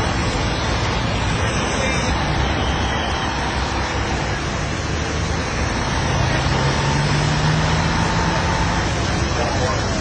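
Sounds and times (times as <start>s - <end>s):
low engine hum: 0.0s - 10.0s
vehicle passing: 0.0s - 10.0s.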